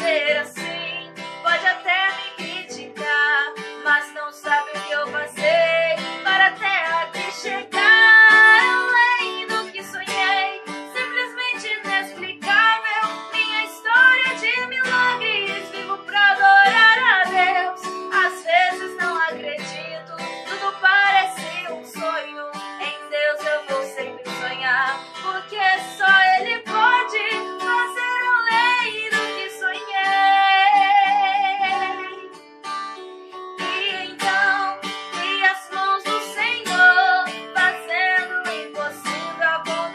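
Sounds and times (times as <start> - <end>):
song with acoustic guitar: 0.0 - 39.9.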